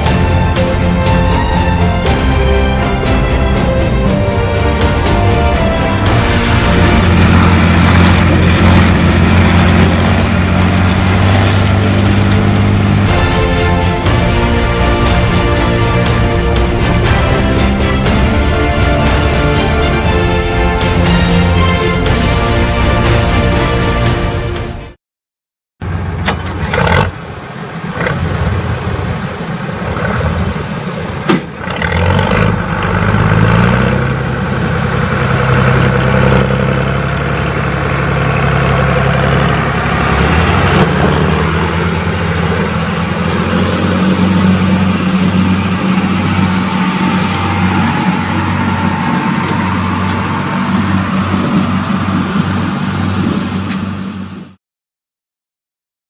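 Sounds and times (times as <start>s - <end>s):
tractor diesel engine running: 0.0s - 24.7s, 25.8s - 54.6s.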